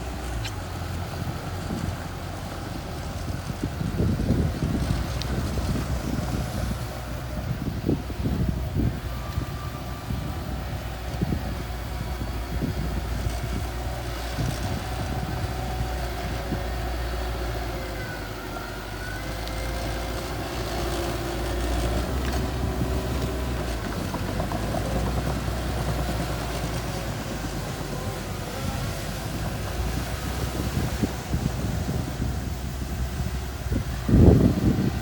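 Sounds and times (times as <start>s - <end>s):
bulldozer diesel engine running: 0.0s - 35.0s
wind buffeting microphone: 0.0s - 35.0s.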